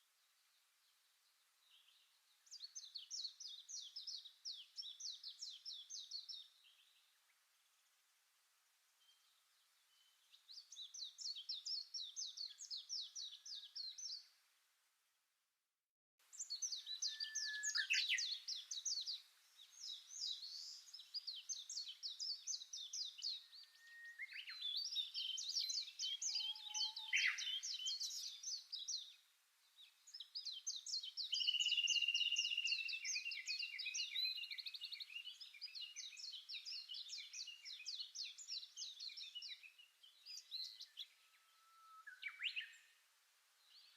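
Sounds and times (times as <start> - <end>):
songbird chattering song: 0.0 - 7.9, 9.0 - 14.4, 16.3 - 43.0.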